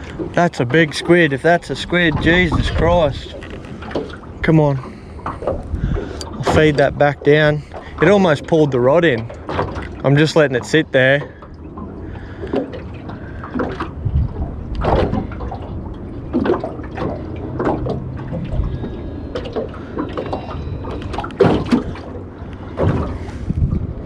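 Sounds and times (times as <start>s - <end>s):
wind rumble on microphone: 0.0s - 8.3s, 11.7s - 24.0s
waves lapping against boat hull: 0.0s - 24.0s.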